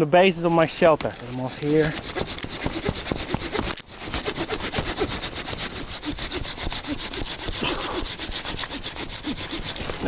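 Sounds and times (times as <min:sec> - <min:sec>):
saw rasping through wood: 0:00.8 - 0:10.0.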